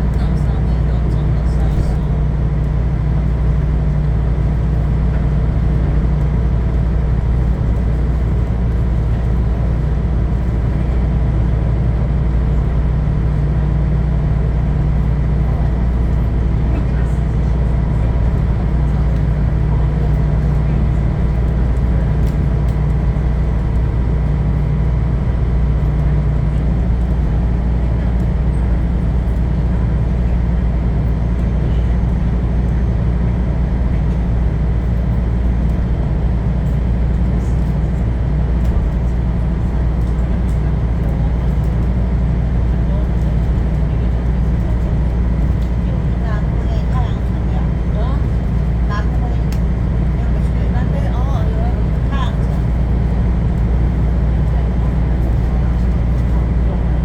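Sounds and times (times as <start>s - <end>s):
boat engine drone: 0.0s - 57.0s.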